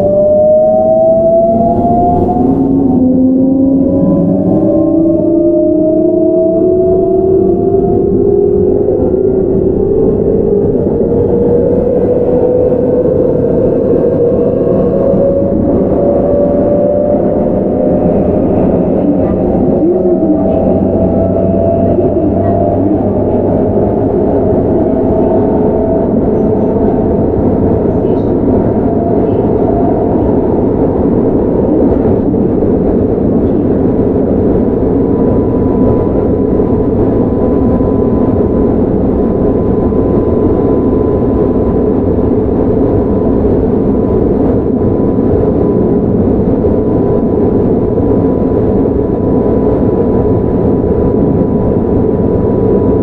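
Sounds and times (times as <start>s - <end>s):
train wheels rumbling: 0.7s - 53.0s.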